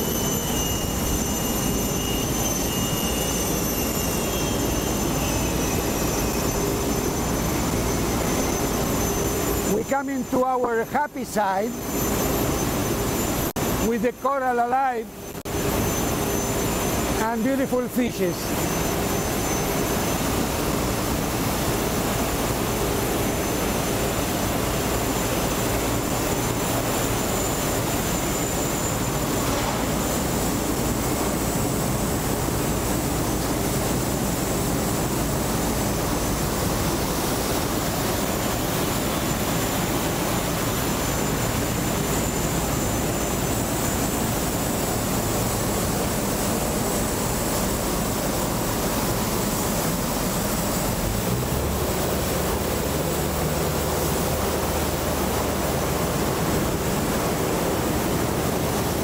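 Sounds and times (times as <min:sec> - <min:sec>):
jet turbine rumble and whine: 0:00.0 - 0:59.0.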